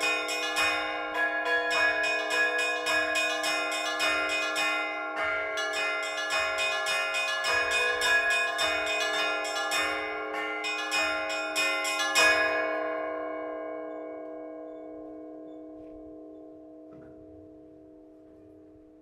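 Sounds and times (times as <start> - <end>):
deep church bells ringing: 0.0 - 19.0
small church bells striking: 0.0 - 19.0.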